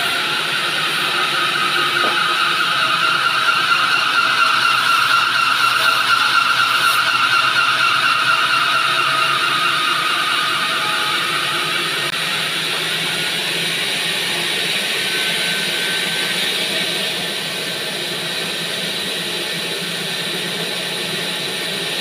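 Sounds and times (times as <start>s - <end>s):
band saw cutting log: 0.0s - 22.0s.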